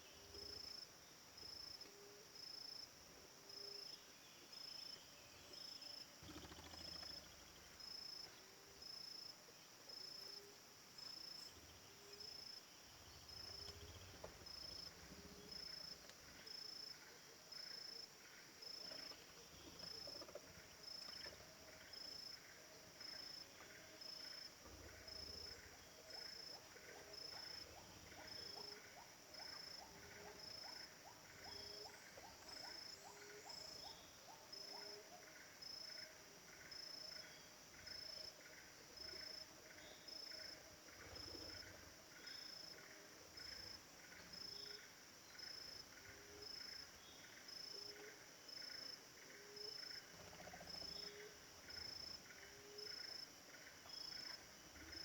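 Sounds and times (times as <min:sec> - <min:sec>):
insect chorus: 0:00.0 - 0:55.0.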